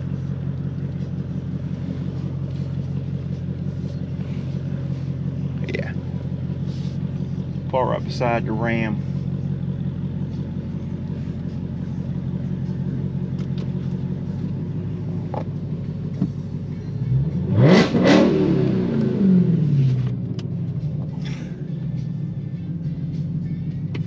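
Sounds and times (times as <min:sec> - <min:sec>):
car engine idling: 0:00.0 - 0:24.0
car engine revving: 0:00.0 - 0:24.0.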